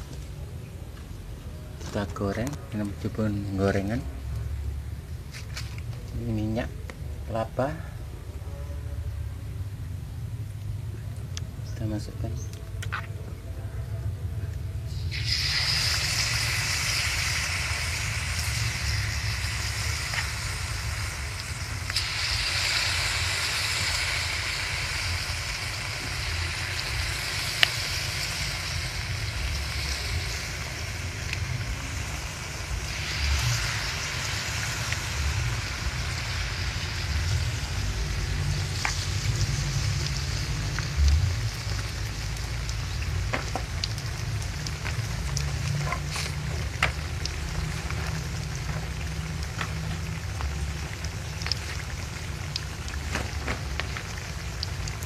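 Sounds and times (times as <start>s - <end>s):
deep-frying sizzle: 0.0s - 13.2s, 14.0s - 55.0s.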